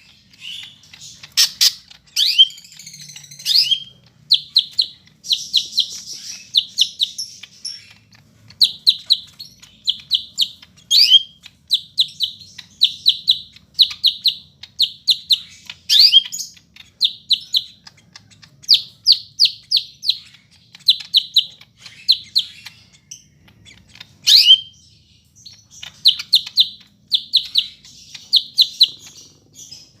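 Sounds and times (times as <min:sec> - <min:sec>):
bird chirping song: 0:00.0 - 0:30.0.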